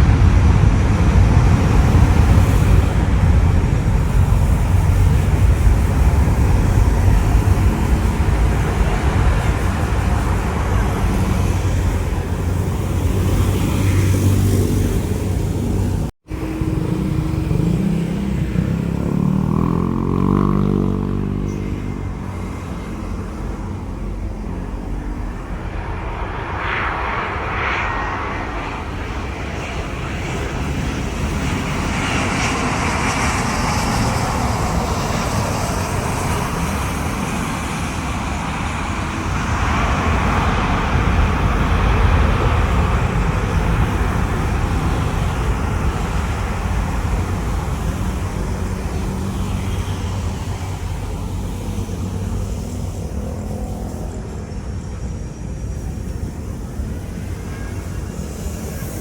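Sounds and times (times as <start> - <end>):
airliner engines rumbling: 0.0 - 59.0
pitched engine whine: 0.0 - 59.0.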